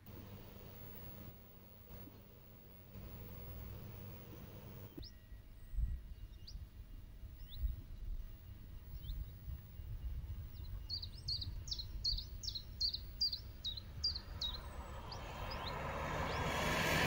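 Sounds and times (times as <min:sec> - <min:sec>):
low background rumble: 0:00.0 - 0:17.0
songbird chirping: 0:00.0 - 0:17.0.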